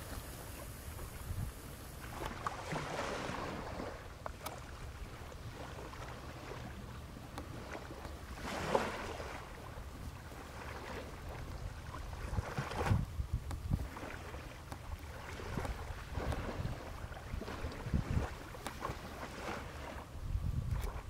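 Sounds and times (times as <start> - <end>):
wind on microphone: 0.0 - 6.0, 7.6 - 21.0
small waves washing in: 0.0 - 21.0.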